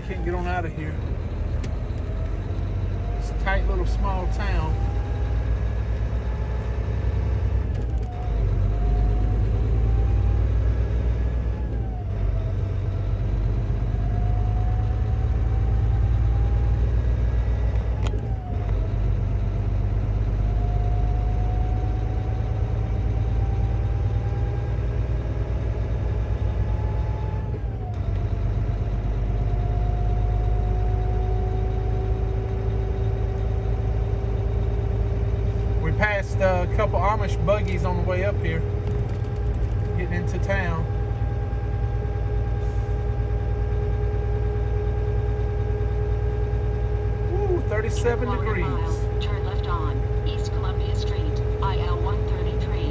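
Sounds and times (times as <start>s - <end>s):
truck diesel engine shifting gears: 0.0s - 52.9s.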